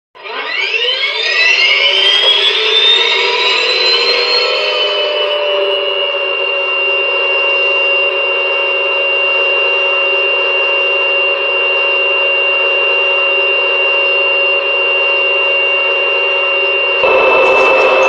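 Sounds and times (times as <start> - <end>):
toy speaker turbine engine whine: 0.2 - 18.0.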